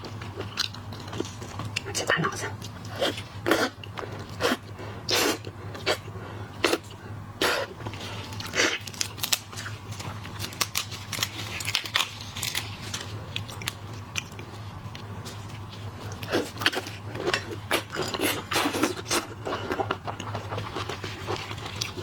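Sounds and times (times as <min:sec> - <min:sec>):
crunching and chewing shells: 0:00.0 - 0:22.0.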